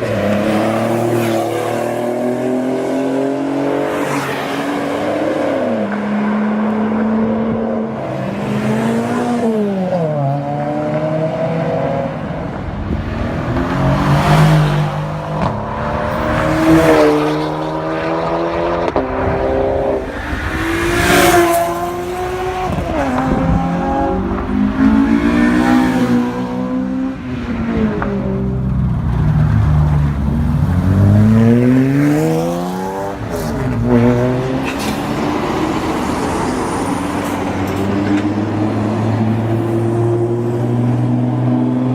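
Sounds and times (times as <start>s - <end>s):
car engines revving: 0.0s - 41.9s.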